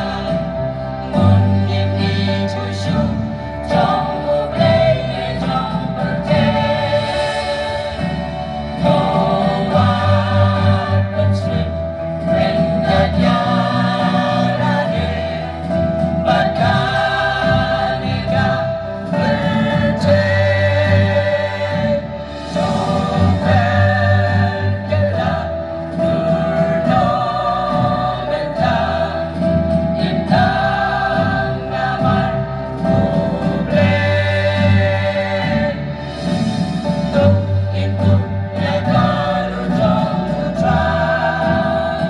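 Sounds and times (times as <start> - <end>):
choir singing a hymn: 0.0 - 42.0.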